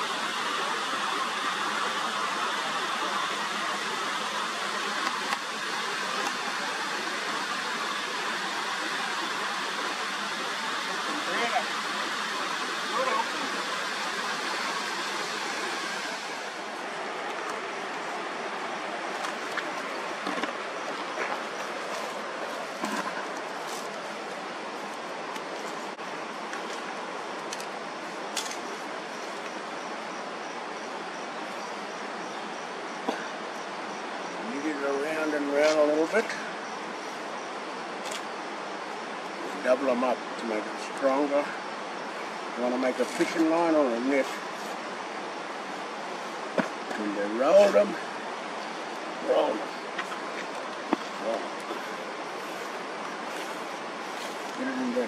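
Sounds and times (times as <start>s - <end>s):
falling water rushing: 0.0s - 55.0s.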